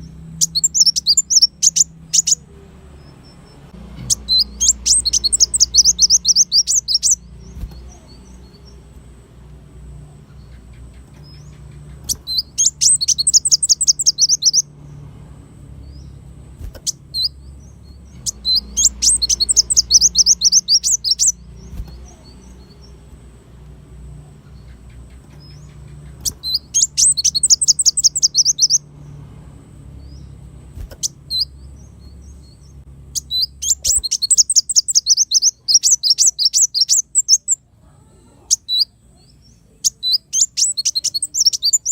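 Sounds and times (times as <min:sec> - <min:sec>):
bird single chips: 0:00.0 - 0:02.4, 0:03.1 - 0:08.8, 0:10.3 - 0:14.7, 0:15.9 - 0:23.2, 0:24.4 - 0:28.9, 0:30.1 - 0:37.6, 0:39.8 - 0:41.9
bird trilled song: 0:00.0 - 0:15.1, 0:15.7 - 0:23.3, 0:24.1 - 0:37.7, 0:38.4 - 0:41.9
low steady hum: 0:00.0 - 0:41.9.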